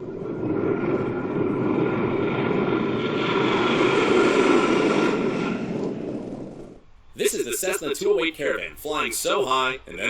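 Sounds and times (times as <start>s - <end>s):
jet engines rumbling with whine: 0.0s - 10.0s.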